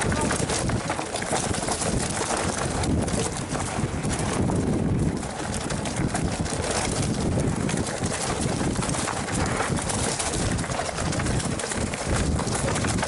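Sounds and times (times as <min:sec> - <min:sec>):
bike rattling and knocking: 0:00.0 - 0:13.0
wind rumble on microphone: 0:00.0 - 0:13.0.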